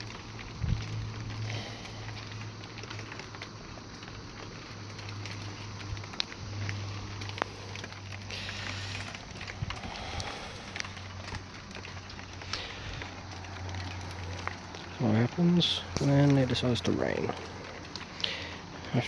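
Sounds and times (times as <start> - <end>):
drips ticking on surfaces: 0.0 - 19.0
rain falling: 0.0 - 19.0.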